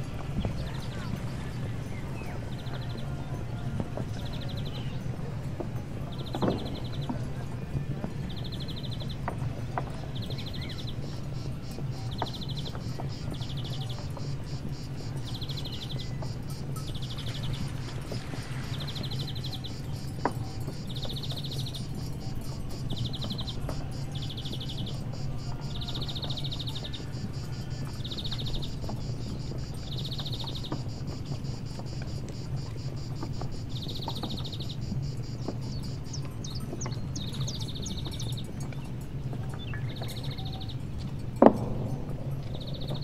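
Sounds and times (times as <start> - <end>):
insects trilling: 0.0 - 43.0
low hum: 0.0 - 43.0.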